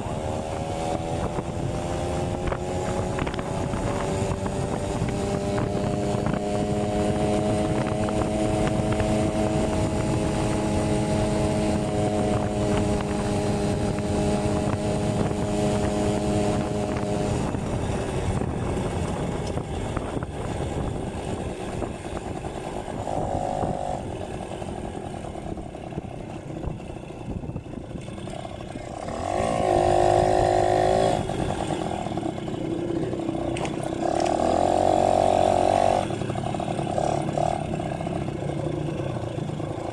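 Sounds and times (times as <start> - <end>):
two-stroke moped engine running: 0.0 - 39.9.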